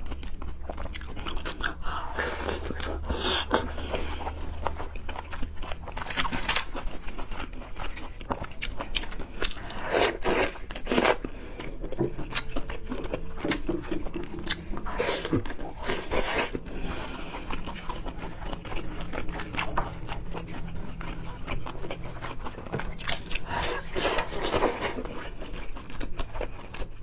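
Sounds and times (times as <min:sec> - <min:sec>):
chewing and crunching: 0:00.0 - 0:27.0.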